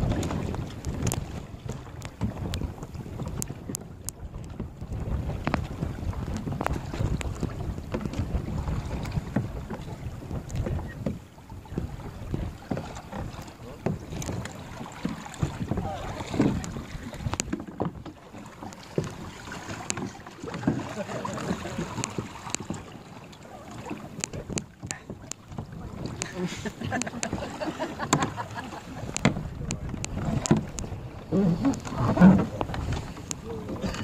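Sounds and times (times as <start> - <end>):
wind buffeting microphone: 0.0 - 18.1, 23.8 - 34.0
sharp taps and splashes: 0.0 - 34.0
water lapping against kayak hulls: 0.0 - 34.0.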